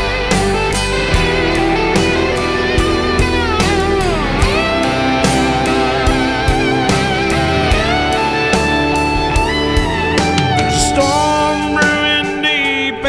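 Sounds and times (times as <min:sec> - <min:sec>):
steady drum beat: 0:00.0 - 0:12.7
electric guitar: 0:00.0 - 0:13.0.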